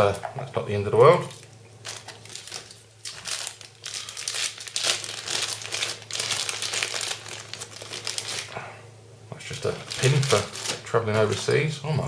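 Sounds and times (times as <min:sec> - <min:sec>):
plastic bag crinkling: 0:00.9 - 0:08.6, 0:09.5 - 0:11.7.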